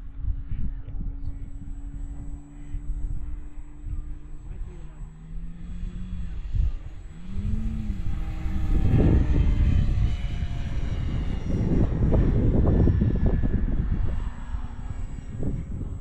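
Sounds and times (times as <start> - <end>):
model plane motor whining: 0.0 - 16.0
wind buffeting microphone: 0.0 - 16.0.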